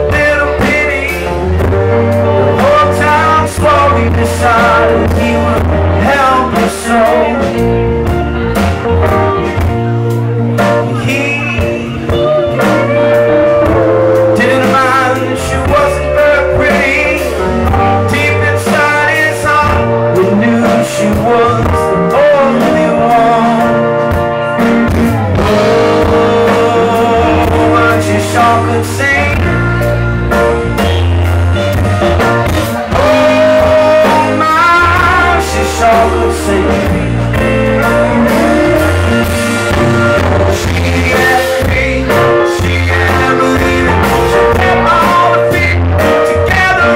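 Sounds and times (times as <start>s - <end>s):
man singing lead: 0.0s - 8.5s, 9.3s - 31.4s, 32.2s - 46.9s
live rock band playing: 0.0s - 46.9s.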